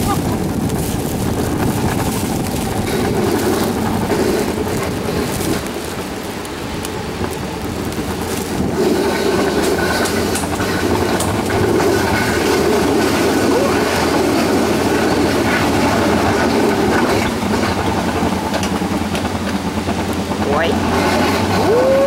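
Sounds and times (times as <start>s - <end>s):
sled wheels rumbling on metal rails: 0.0s - 22.0s.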